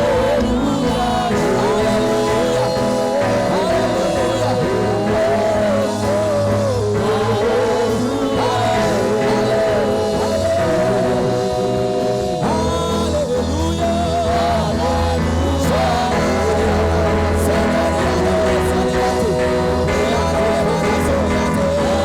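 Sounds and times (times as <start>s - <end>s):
bass and instrumental accompaniment: 0.0s - 22.0s
voices singing gospel song: 0.0s - 22.0s.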